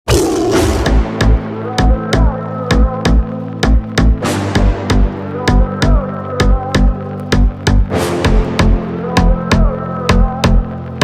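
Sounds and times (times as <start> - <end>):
electronic music with heavy bass beat: 0.5 - 11.0.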